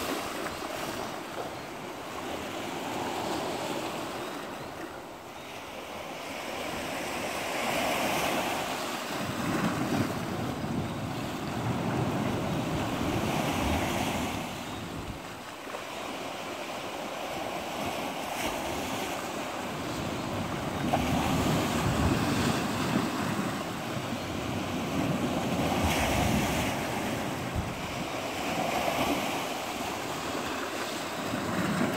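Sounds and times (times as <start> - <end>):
waves breaking on rocky shore: 5.9 - 31.9.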